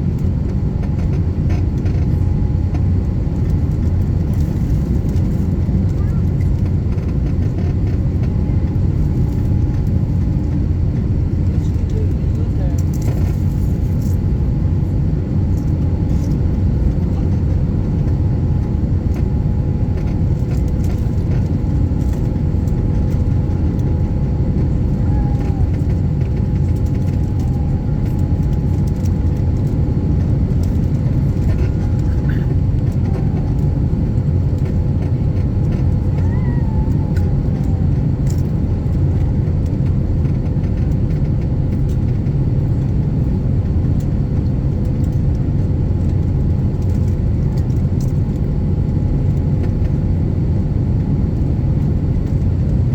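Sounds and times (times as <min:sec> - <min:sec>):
aircraft cabin engine rumble: 0:00.0 - 0:52.9.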